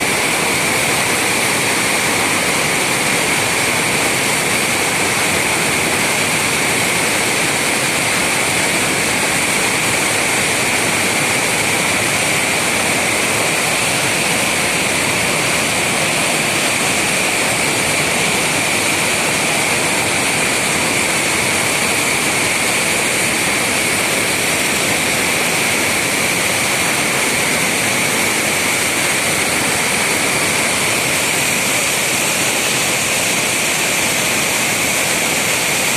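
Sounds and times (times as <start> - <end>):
loud rush of water: 0.0 - 35.9.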